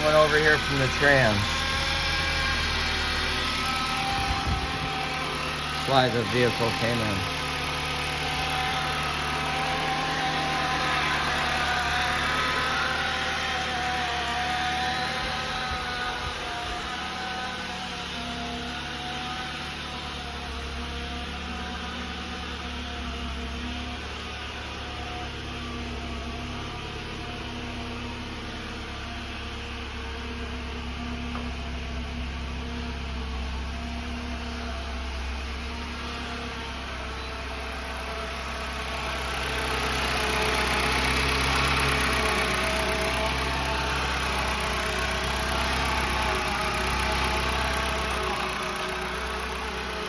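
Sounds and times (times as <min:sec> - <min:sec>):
car engine hum: 0:00.0 - 0:50.0.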